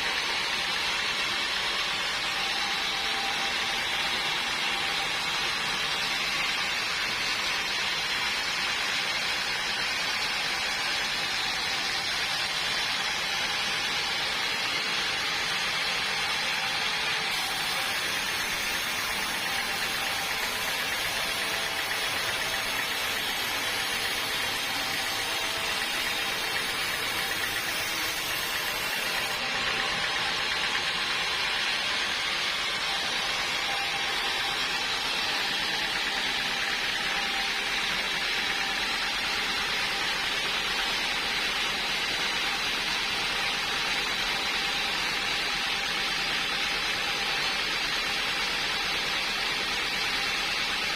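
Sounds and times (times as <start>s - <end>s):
sawmill machinery hissing: 0.0s - 50.9s.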